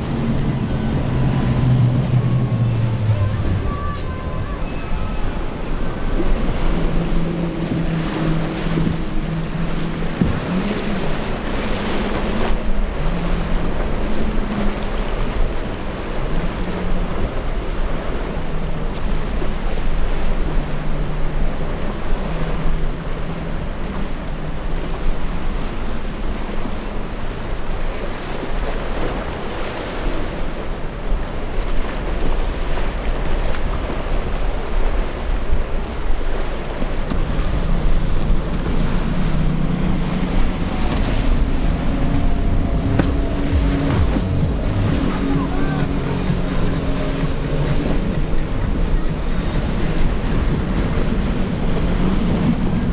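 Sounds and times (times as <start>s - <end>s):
outboard engines humming: 0.0s - 52.9s
waves breaking: 0.0s - 52.9s
wind buffeting microphone: 0.0s - 52.9s.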